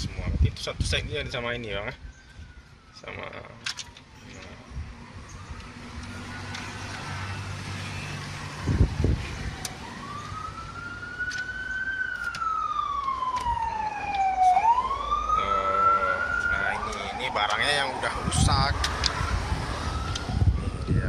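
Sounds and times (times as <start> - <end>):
siren wailing: 1.6 - 21.0.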